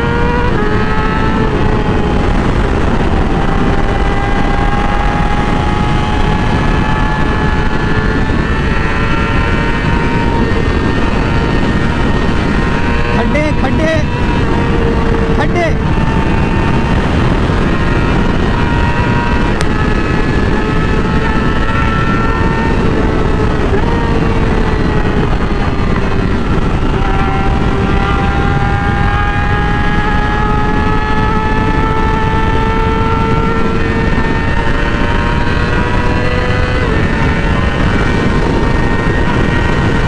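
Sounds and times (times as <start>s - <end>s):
motorcycle engine running: 0.0s - 40.0s
rushing noise: 0.0s - 40.0s.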